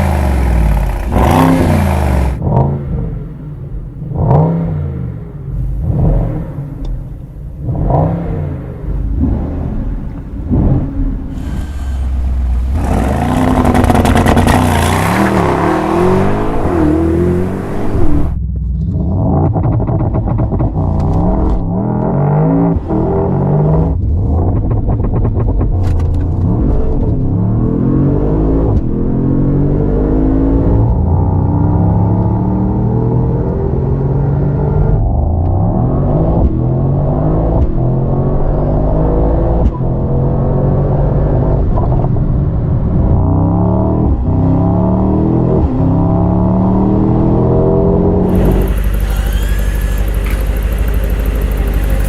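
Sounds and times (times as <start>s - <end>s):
car engine revving: 0.0s - 34.8s, 43.4s - 52.0s.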